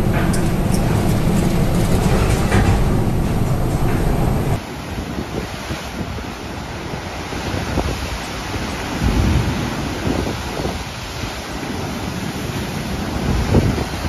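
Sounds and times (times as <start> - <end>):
storm wind and heavy sea: 0.0 - 14.0
surf breaking on rocky shore: 0.0 - 14.0.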